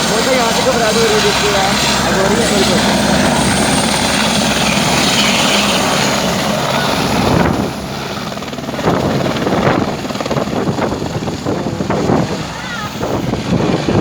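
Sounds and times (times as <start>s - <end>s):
helicopter running: 0.0s - 14.0s.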